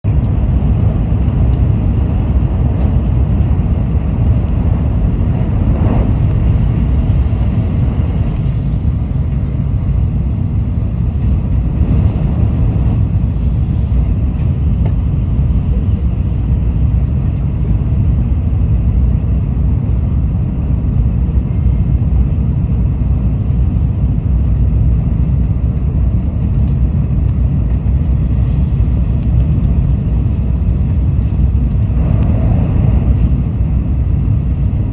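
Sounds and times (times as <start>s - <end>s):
train running low rumble: 0.0s - 34.9s.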